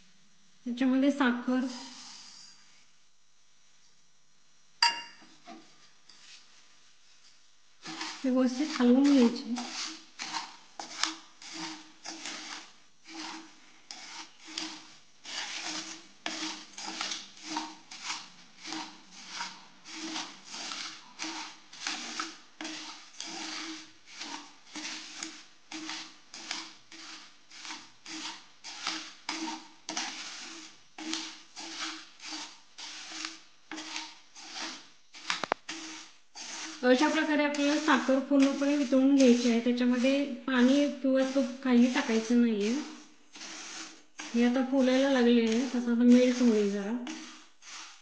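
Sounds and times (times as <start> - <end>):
spatula scraping sugar in a pan: 1.3 - 3.0, 4.8 - 48.0.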